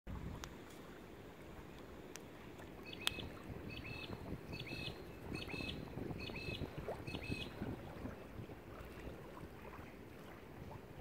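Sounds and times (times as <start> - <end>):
wind rumble on microphone: 0.1 - 11.0.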